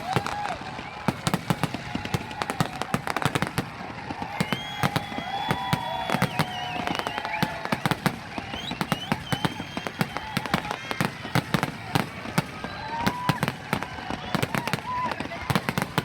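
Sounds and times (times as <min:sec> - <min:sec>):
fireworks cracking and banging: 0:00.0 - 0:16.0
fireworks whistling: 0:00.0 - 0:16.0.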